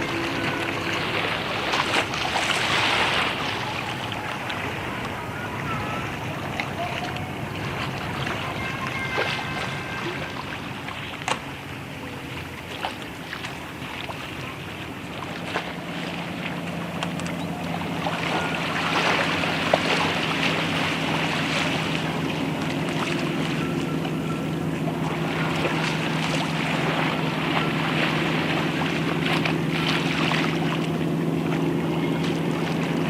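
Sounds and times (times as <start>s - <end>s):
boat engine humming: 0.0s - 33.0s
water noise: 0.0s - 33.0s
wind: 0.0s - 33.0s.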